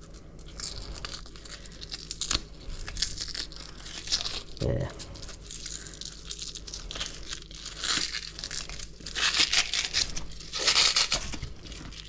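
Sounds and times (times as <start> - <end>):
fish skin tearing: 0.4 - 4.6, 5.2 - 12.0.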